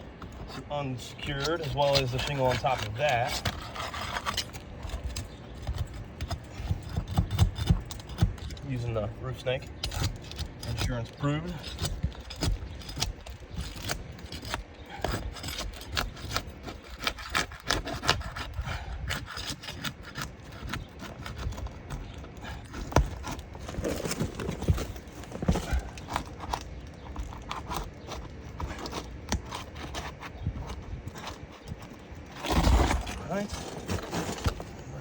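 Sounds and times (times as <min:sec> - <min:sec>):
pry bar scraping shingles: 0:00.0 - 0:35.0.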